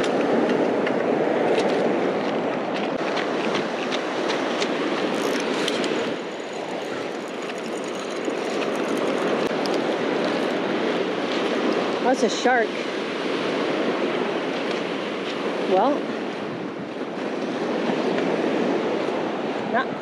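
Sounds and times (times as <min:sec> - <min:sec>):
surf washing up beach: 0:00.0 - 0:20.0
wind rumbling on microphone: 0:00.0 - 0:20.0.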